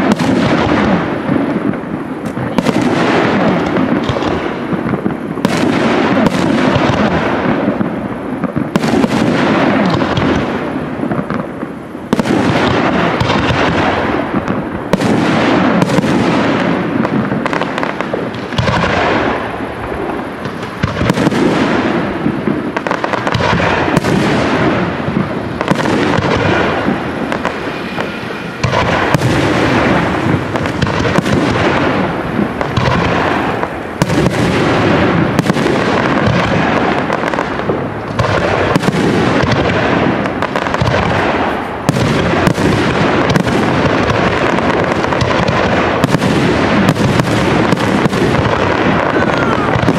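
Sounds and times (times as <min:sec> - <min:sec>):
fireworks shells bursting: 0:00.0 - 0:49.9.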